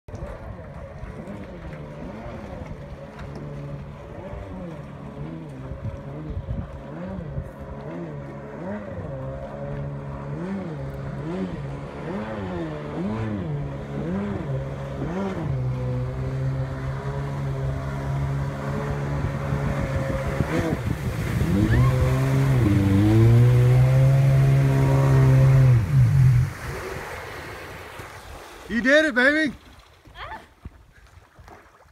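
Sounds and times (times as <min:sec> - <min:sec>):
jet ski engine revving: 0:00.1 - 0:29.8.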